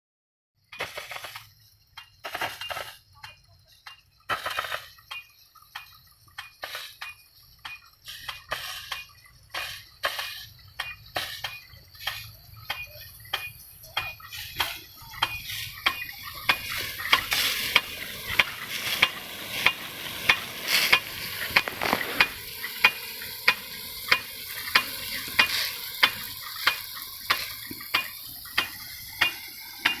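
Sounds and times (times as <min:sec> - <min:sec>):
sprinkler clacking: 0:00.7 - 0:30.0
water jet hissing: 0:04.3 - 0:30.0.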